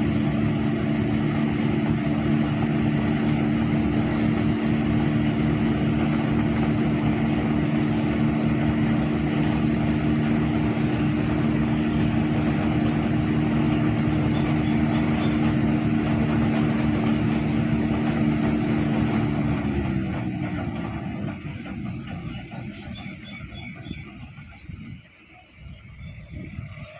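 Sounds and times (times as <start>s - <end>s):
combine harvester running: 0.0s - 26.9s.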